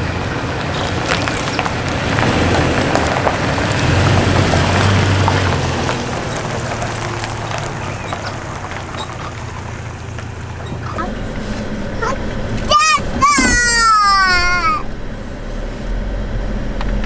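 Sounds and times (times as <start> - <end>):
pickup truck engine hum: 0.0 - 17.0
tyre noise on asphalt: 0.0 - 17.0.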